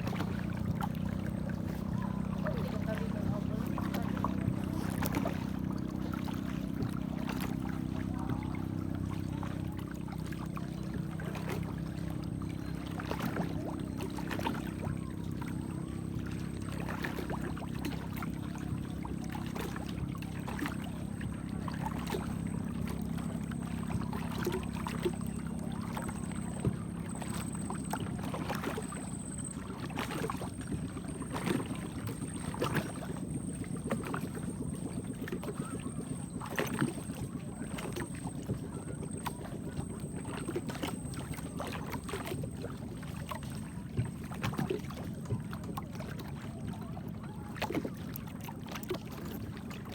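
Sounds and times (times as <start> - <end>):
boat engine running: 0.0 - 49.9
water slapping against hull: 0.0 - 49.9.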